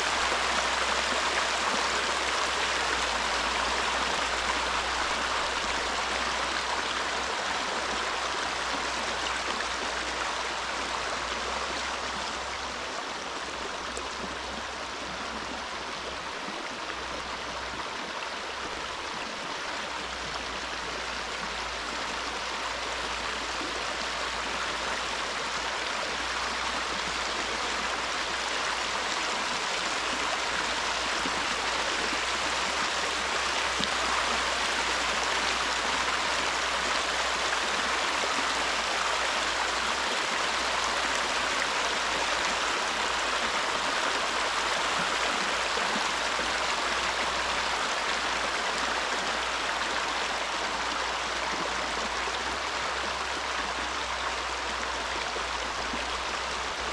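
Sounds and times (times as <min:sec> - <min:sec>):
stream water flowing: 0:00.0 - 0:56.9.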